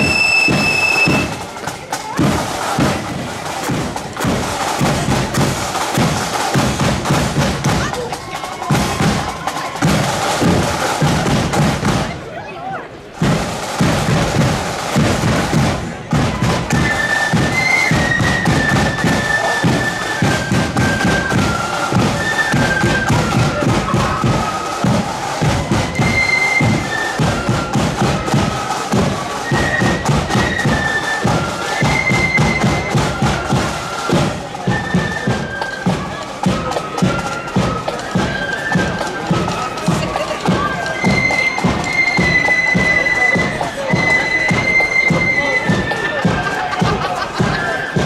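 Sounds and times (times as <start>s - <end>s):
snare and bass drums: 0.0s - 12.3s, 13.1s - 48.0s
marching flute band playing: 0.0s - 48.0s.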